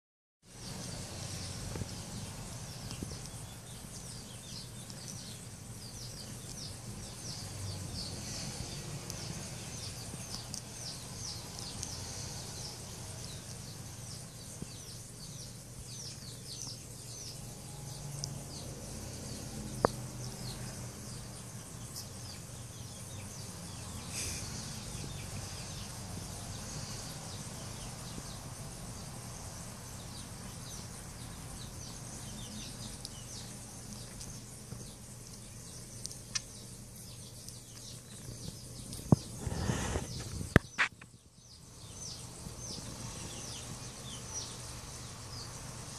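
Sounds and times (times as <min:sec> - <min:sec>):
small birds chirping: 0:00.4 - 0:45.9.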